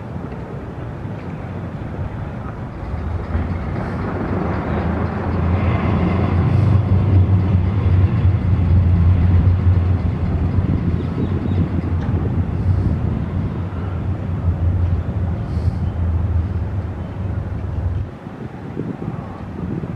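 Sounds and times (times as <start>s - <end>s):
heavy vehicle engine rumble: 0.0s - 19.9s.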